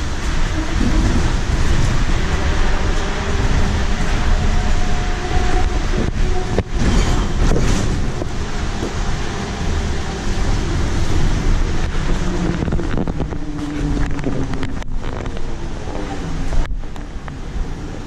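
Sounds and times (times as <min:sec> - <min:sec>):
bus road and tyre rumble: 0:00.0 - 0:18.0.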